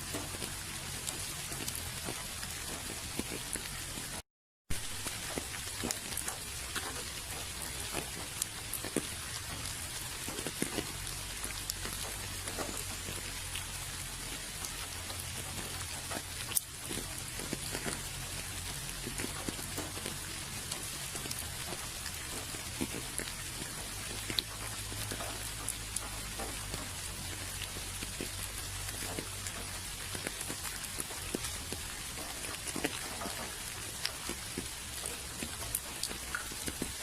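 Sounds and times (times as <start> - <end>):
raindrops ticking on a surface: 0.0 - 37.0
steady rain hiss: 0.0 - 37.0.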